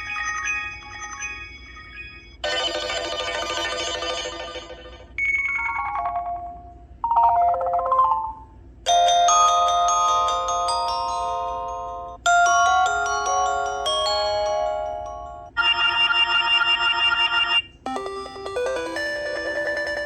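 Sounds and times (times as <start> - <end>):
electronic ringtone tunes: 0.0 - 6.6, 7.2 - 20.0.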